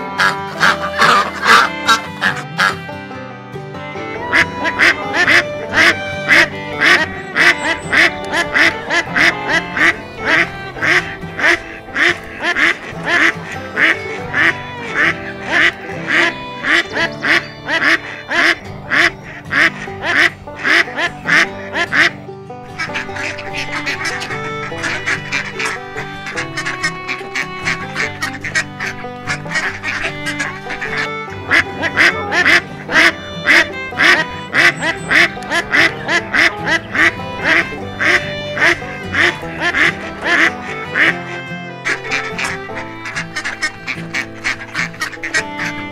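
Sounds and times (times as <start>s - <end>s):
ducks quacking: 0.0s - 45.9s.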